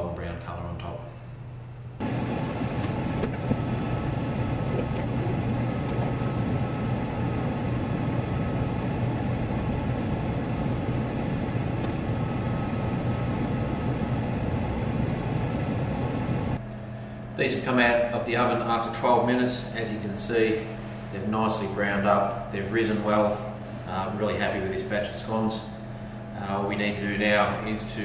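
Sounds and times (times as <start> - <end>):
faint whine: 0.0 - 28.0
oven fan noise: 0.0 - 28.0.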